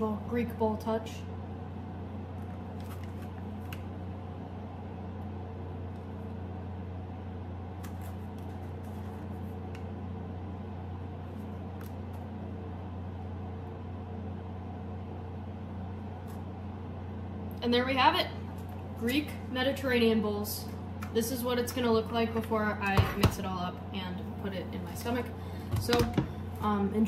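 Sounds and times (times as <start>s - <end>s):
kitchen appliance humming: 0.0s - 27.0s.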